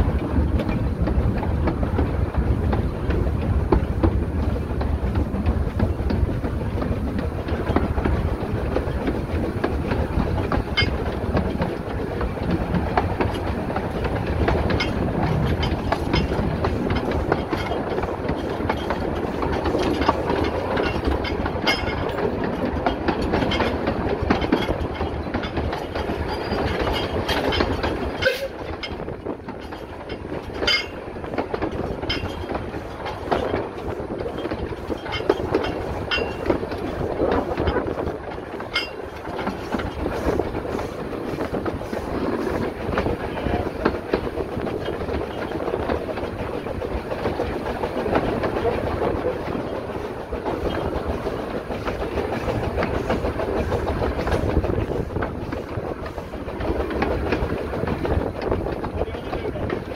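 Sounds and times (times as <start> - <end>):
clacks over rail joints: 0.0 - 59.9
train wheels rumbling and rattling: 0.0 - 59.9.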